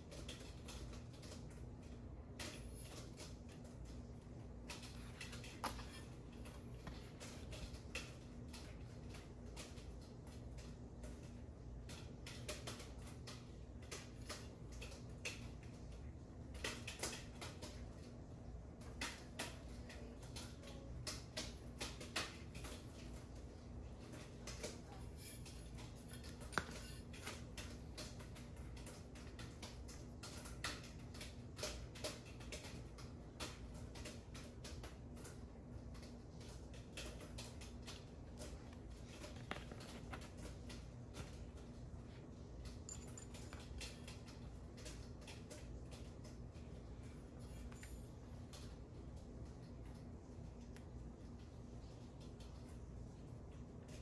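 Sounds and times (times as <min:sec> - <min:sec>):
soft clicks and rustles of handling: 0:00.0 - 0:54.0.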